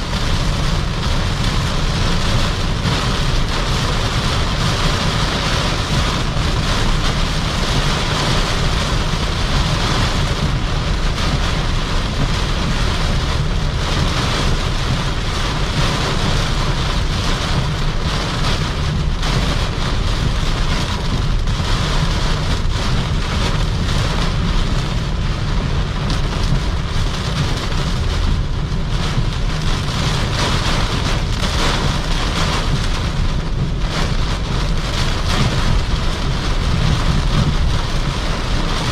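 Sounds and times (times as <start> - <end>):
heavy rain hitting a car: 0.0 - 38.9
strong low rumble: 0.0 - 38.9
tyre and road noise: 0.0 - 38.9.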